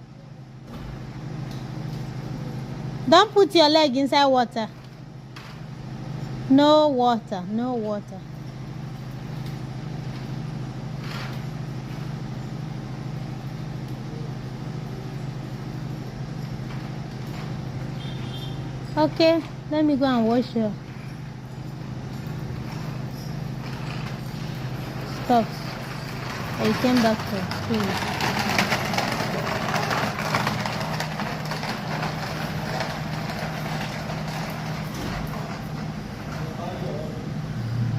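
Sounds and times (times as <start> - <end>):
low engine-like hum: 0.0 - 37.9.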